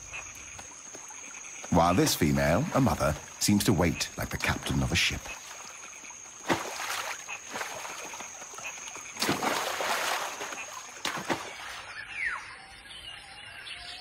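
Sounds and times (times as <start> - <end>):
water splashing: 0.0 - 11.9.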